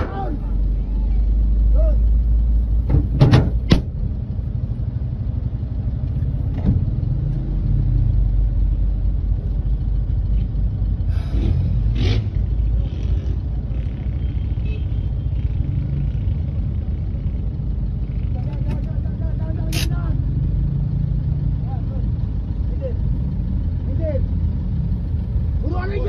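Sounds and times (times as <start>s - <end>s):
car engine rumble in cabin: 0.0s - 26.0s.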